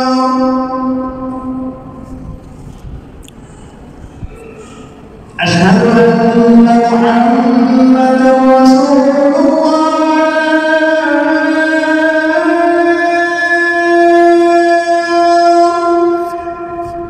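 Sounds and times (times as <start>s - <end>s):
call to prayer singing: 0.0s - 2.5s, 5.3s - 17.0s.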